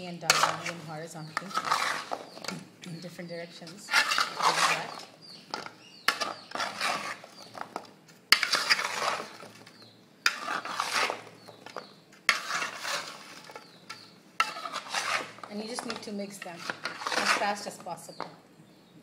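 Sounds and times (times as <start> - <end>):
spoon scraping metal bowl: 0.0 - 2.5, 3.6 - 7.5, 8.3 - 17.8.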